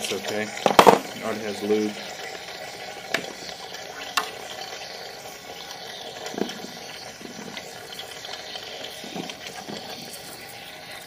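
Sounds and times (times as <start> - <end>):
oil trickling into plastic jug: 0.0 - 11.0
watery gurgle: 0.0 - 11.0.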